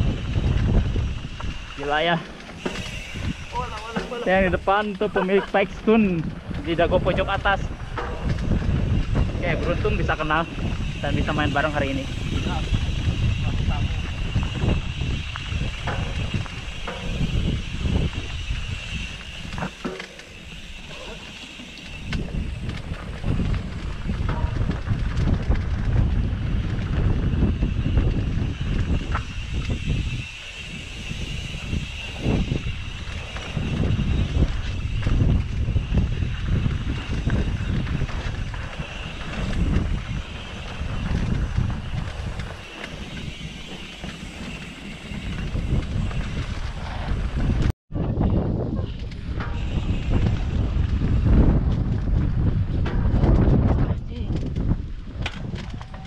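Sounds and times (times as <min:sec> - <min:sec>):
bike clicks and rattles: 0:00.0 - 0:56.0
bike tyre noise: 0:00.0 - 0:56.0
wind rumbling on microphone: 0:00.0 - 0:56.0.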